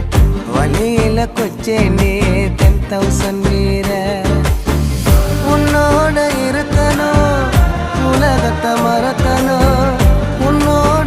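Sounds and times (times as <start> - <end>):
film song music with steady beat: 0.0 - 11.0.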